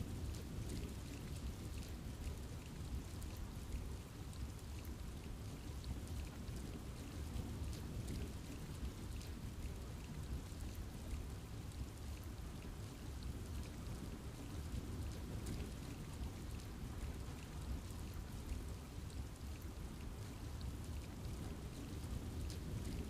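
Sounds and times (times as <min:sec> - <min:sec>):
steady rain in forest: 0:00.0 - 0:23.0.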